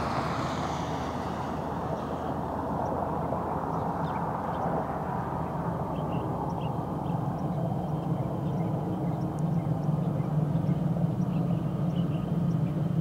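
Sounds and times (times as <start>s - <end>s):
distant train engine rumble: 0.0s - 13.0s.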